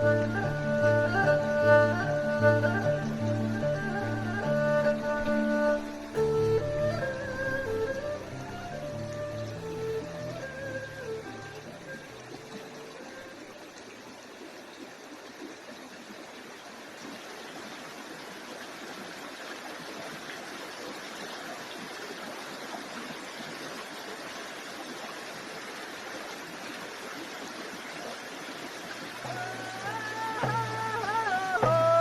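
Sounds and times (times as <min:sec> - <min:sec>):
running water rushing: 0:00.0 - 0:32.0.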